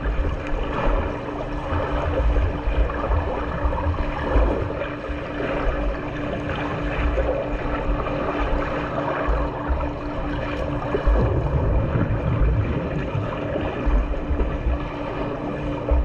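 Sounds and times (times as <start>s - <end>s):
low rumbling: 0.0s - 16.0s
steady hum: 0.0s - 16.0s
water churning and splashing: 0.0s - 16.0s.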